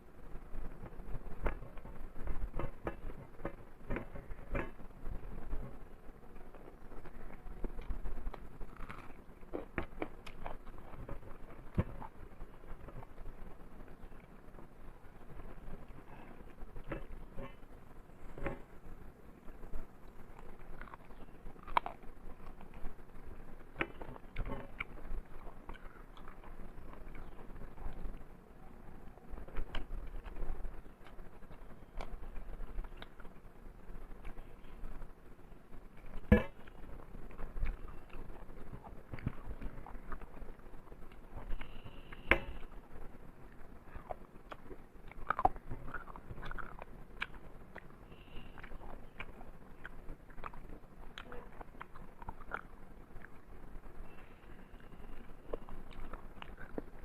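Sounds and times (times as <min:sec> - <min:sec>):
person chewing food: 0:00.0 - 0:28.4, 0:35.9 - 0:42.8, 0:43.5 - 0:57.0.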